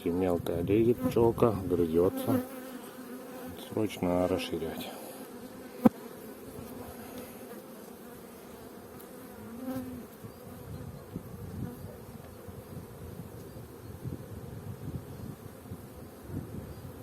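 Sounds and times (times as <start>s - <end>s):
bee buzzing past close: 0.7s - 17.0s
bees buzzing: 0.7s - 17.0s.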